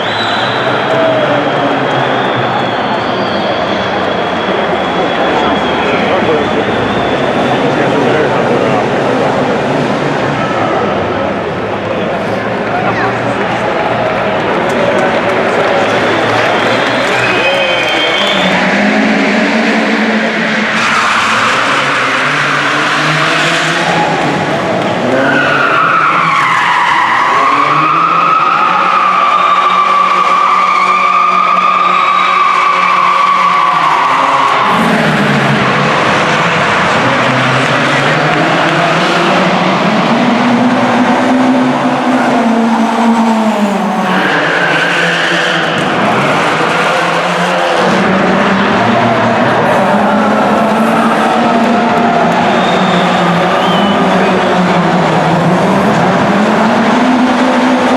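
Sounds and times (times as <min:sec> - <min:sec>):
car engine working hard: 0:00.0 - 0:57.9.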